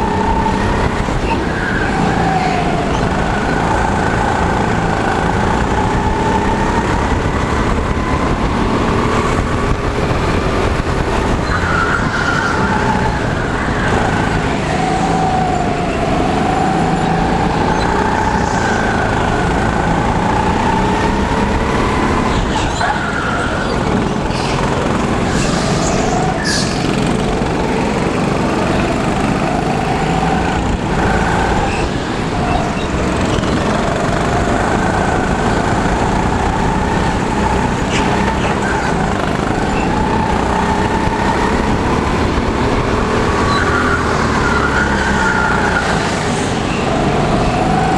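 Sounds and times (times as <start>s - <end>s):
go-kart engine revving: 0.0s - 47.9s
other kart engines: 0.0s - 47.9s.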